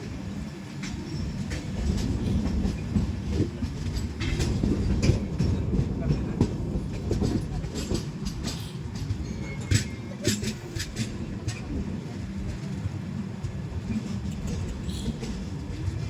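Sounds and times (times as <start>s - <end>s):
train coaches rumbling: 0.0s - 16.0s
wheels clacking over rail joints: 0.1s - 16.0s.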